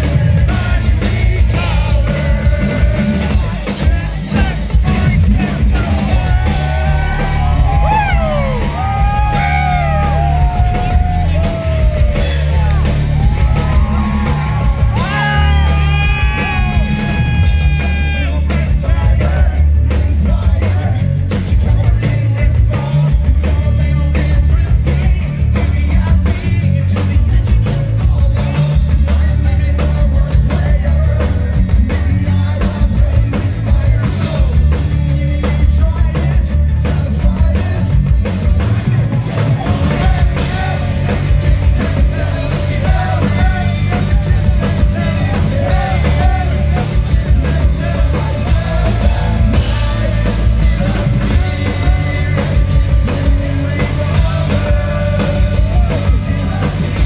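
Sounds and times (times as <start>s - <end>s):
person singing: 0.0s - 38.4s, 39.4s - 57.0s
live rock band: 0.0s - 57.0s.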